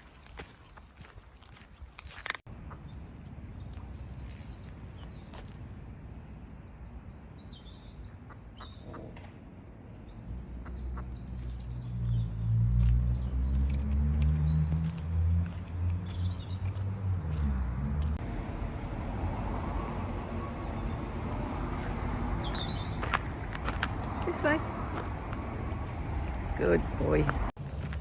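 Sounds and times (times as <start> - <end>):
small birds chirping: 0.0 - 18.2, 19.8 - 25.3
low engine hum: 2.5 - 28.0.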